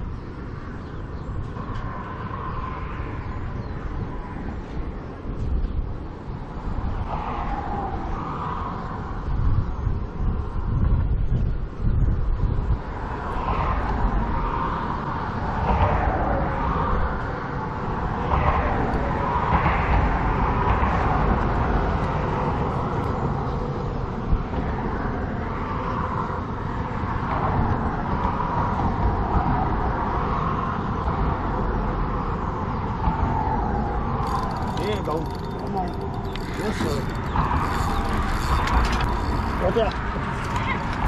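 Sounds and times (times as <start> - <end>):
road traffic: 0.0 - 41.0
wind buffeting microphone: 0.0 - 41.0.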